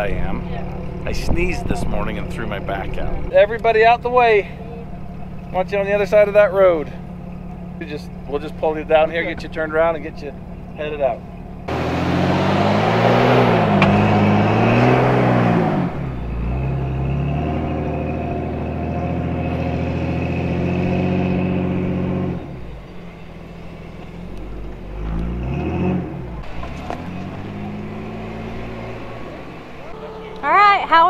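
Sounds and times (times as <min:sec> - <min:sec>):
engine revving under load: 0:00.0 - 0:31.0.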